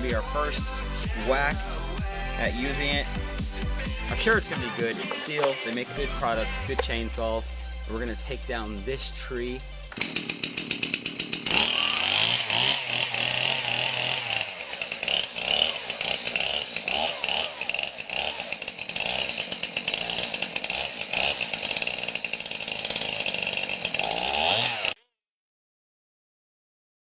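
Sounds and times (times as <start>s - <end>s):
chainsaw cutting into tree: 0.0s - 9.0s, 9.7s - 25.0s.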